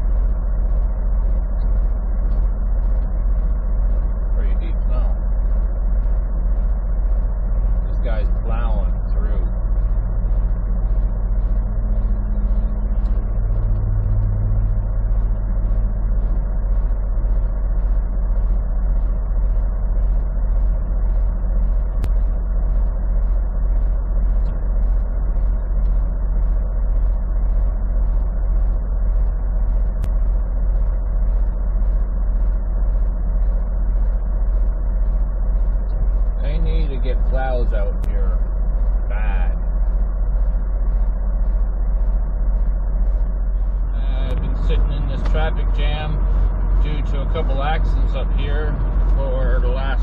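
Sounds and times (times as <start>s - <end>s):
faint regular tick: 0.0s - 4.8s, 5.4s - 50.0s
diesel truck engine humming: 0.0s - 50.0s.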